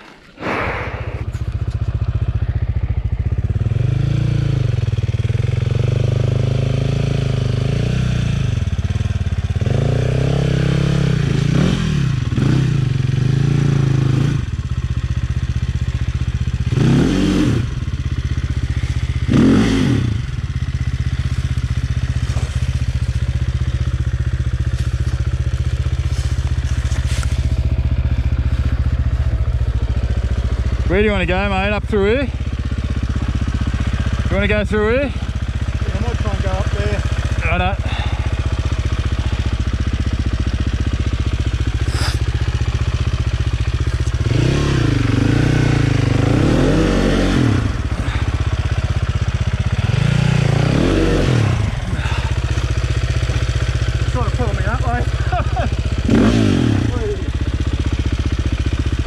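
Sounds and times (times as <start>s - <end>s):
dirt bike engine idling and revving: 0.0s - 59.0s.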